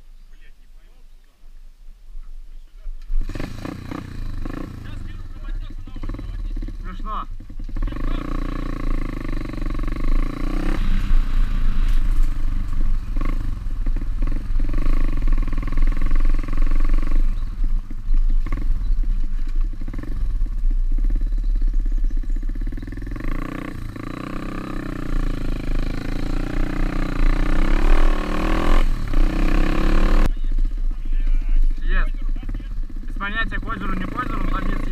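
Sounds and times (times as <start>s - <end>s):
pit bike engine revving: 3.0s - 34.9s.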